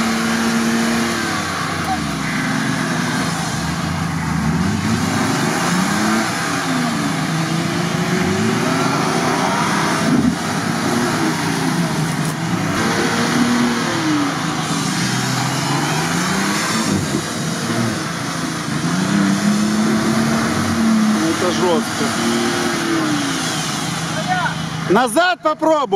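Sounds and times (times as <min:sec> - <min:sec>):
engine revving: 0:00.0 - 0:25.0
vehicle churning through mud and water: 0:00.0 - 0:25.9.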